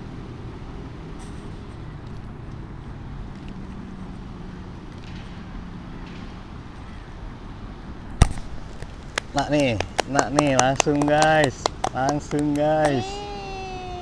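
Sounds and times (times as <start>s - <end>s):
distant city traffic rumble: 0.0s - 14.0s.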